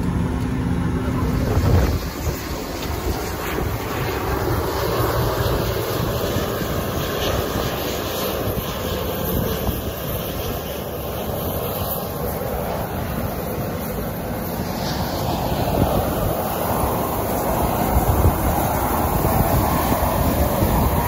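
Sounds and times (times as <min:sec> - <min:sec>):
wind rumbling on microphone: 0:00.0 - 0:13.6, 0:14.7 - 0:21.0
aircraft engine noise: 0:00.0 - 0:21.0.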